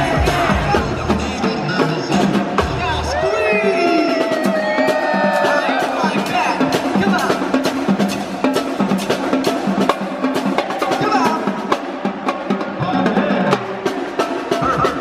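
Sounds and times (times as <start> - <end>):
drum-driven percussion music: 0.0 - 15.0.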